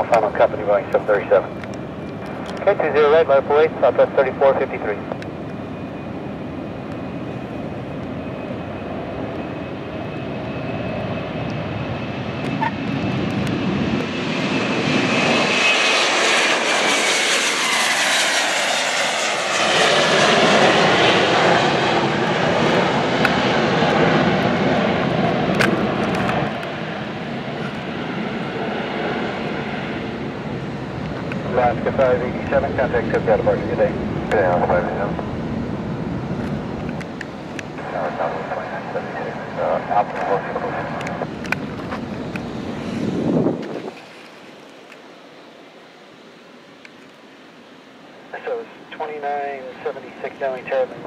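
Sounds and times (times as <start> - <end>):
jet airliner engine roar: 0.0 - 51.0
jet engine whine: 0.0 - 51.0.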